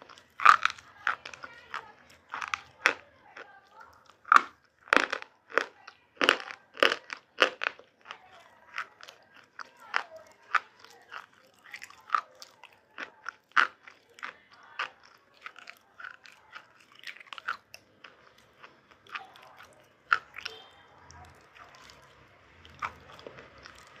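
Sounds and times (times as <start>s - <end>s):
biting and chewing crunchy food: 0.0s - 24.0s.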